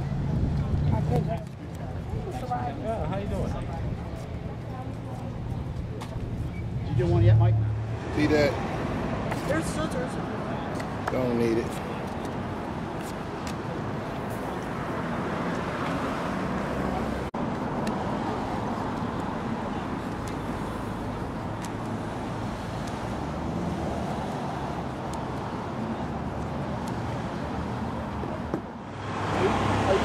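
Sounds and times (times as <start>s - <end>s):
street traffic: 0.0s - 30.0s.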